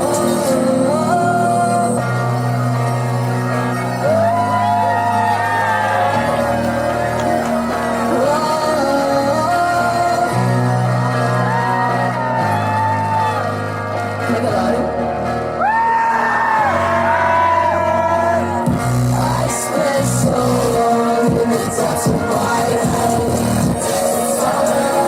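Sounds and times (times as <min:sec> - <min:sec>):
deep bass line: 0:00.0 - 0:24.0
sung and shouted vocals: 0:00.0 - 0:25.0.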